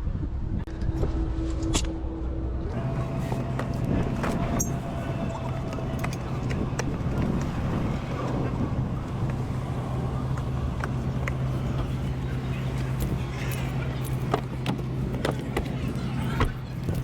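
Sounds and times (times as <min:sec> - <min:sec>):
vehicle engine idling: 0:02.8 - 0:17.0.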